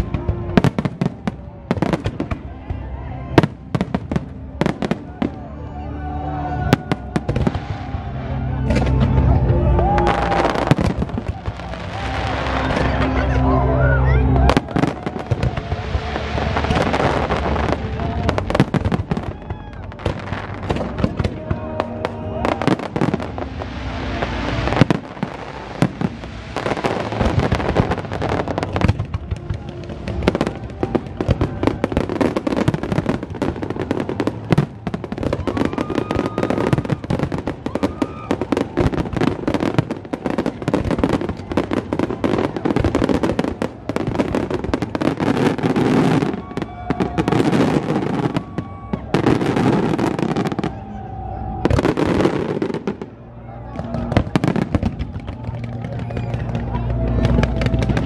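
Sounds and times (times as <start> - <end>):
fireworks bursting: 6.6 - 58.0.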